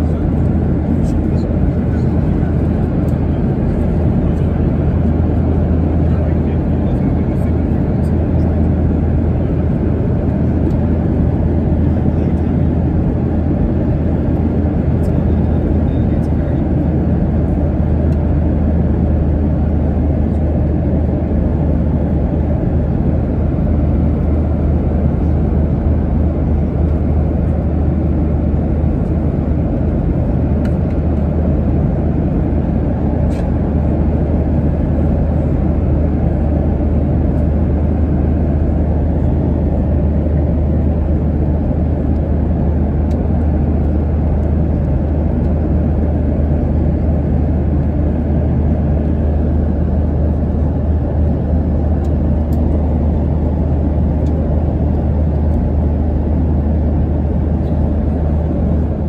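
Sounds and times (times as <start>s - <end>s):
airliner cabin engine roar: 0.0s - 59.0s.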